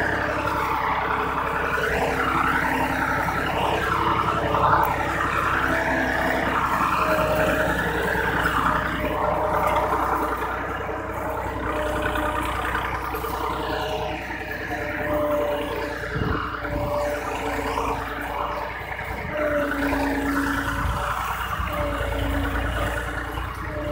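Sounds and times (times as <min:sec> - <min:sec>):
toy tractor motor whirring: 0:00.0 - 0:23.9.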